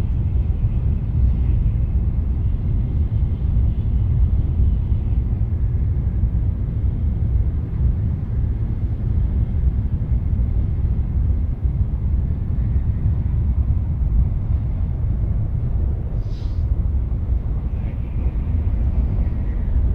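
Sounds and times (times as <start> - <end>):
train interior low rumble: 0.0 - 19.9.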